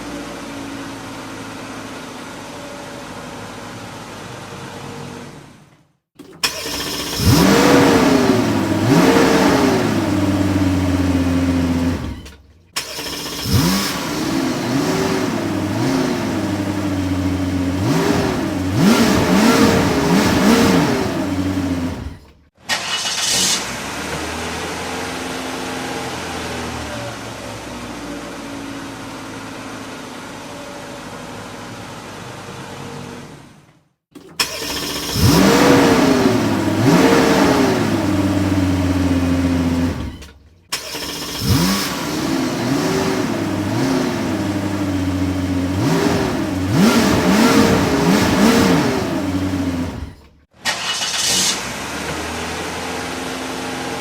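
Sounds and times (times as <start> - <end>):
car engine idling and revving: 0.0 - 33.6, 34.2 - 54.0.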